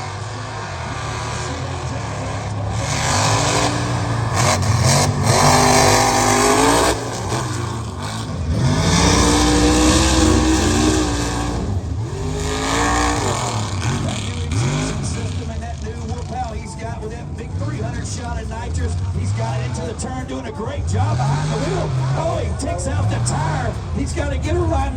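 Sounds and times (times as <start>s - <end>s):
steady low rumble: 0.0s - 24.9s
truck engine revving: 0.0s - 24.9s.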